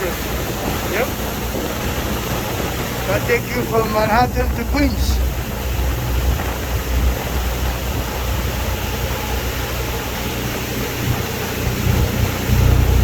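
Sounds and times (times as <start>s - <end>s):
low drone of boat: 0.0s - 13.0s
water rushing: 0.0s - 13.0s
wind buffeting microphone: 0.0s - 13.0s.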